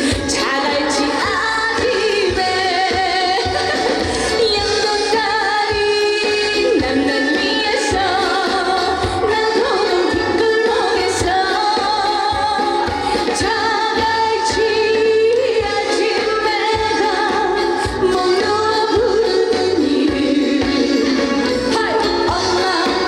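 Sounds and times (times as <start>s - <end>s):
backing track with drum beat: 0.0s - 23.0s
woman singing: 0.0s - 23.0s.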